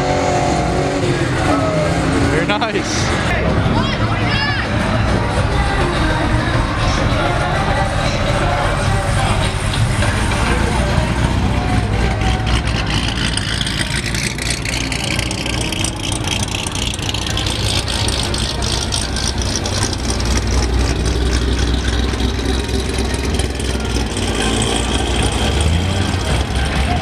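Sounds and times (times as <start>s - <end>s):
car engines idling: 0.0s - 27.0s.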